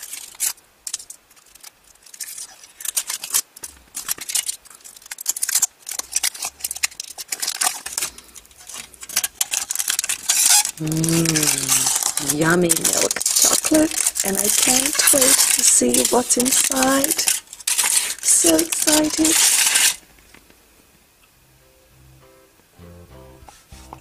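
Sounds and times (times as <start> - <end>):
foil wrapper crinkling: 0.0 - 20.5.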